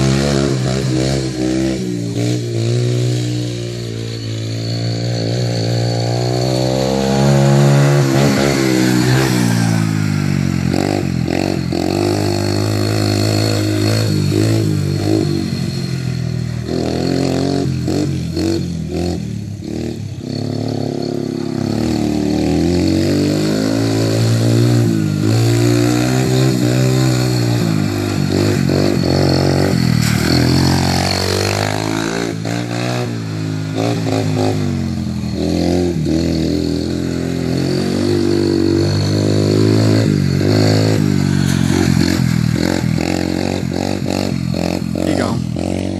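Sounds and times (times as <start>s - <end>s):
small engine revving: 0.0s - 45.9s.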